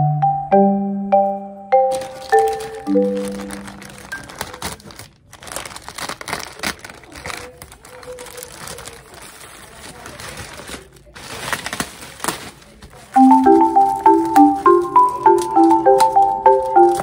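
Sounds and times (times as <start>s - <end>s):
plastic pouch crinkling: 1.9s - 17.0s.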